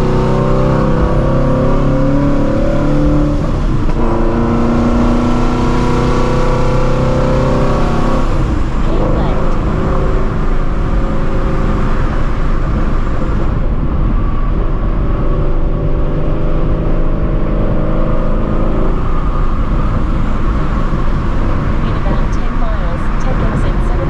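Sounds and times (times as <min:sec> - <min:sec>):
car engine cruising: 0:00.0 - 0:24.0.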